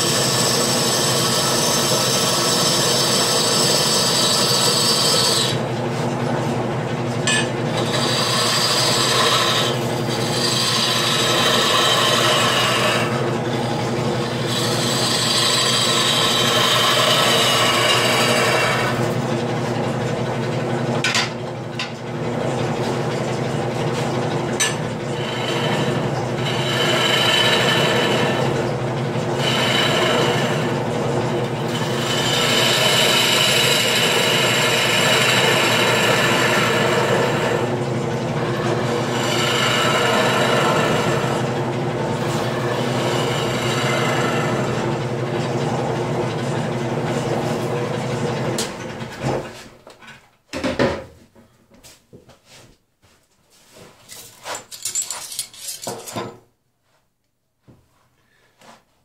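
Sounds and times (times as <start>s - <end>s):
turning tool scraping wood: 0.0s - 6.2s, 7.1s - 19.3s, 23.7s - 50.0s, 53.7s - 56.4s
wood lathe motor hum: 0.0s - 49.6s.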